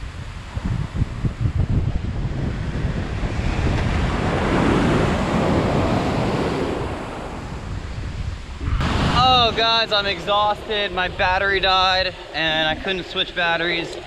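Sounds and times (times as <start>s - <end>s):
wind rumbling on microphone: 0.0s - 14.0s
waves breaking on beach: 2.2s - 14.0s.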